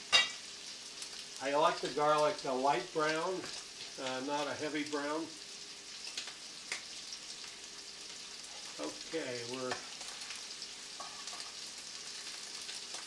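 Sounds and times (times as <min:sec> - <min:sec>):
prawns sizzling in a pan: 0:00.0 - 0:13.0.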